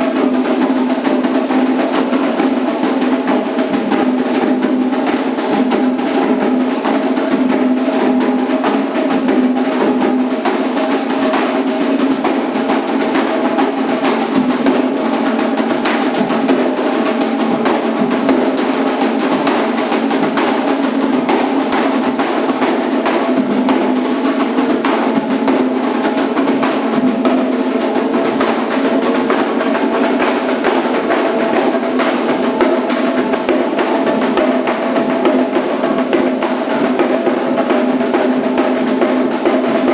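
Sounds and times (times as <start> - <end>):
hand drums playing fast rhythm: 0.0 - 39.9.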